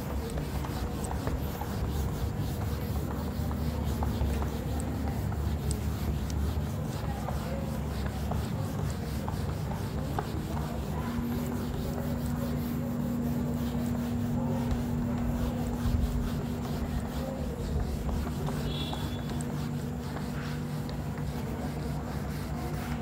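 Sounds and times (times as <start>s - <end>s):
cloth rubbing across whiteboard: 0.0s - 23.0s.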